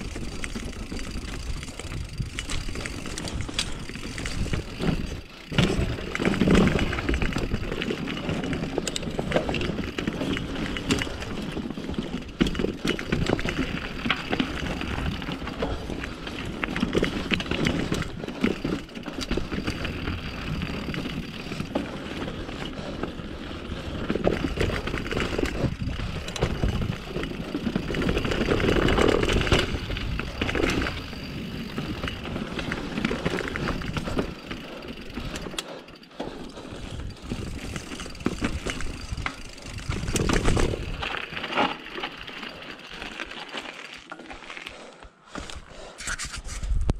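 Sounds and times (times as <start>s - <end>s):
bike knocks and rattles: 0.0s - 23.2s, 23.8s - 44.6s
bike tyres rolling over dirt and rock: 0.0s - 46.8s.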